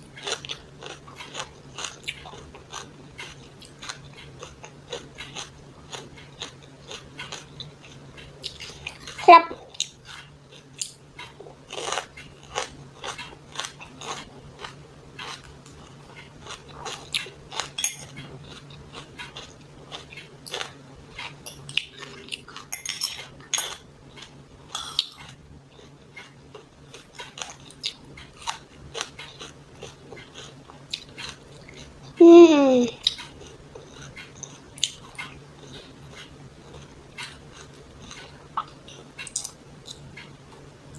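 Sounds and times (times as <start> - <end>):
chewing and crunching food: 0.0 - 32.2, 32.9 - 40.8.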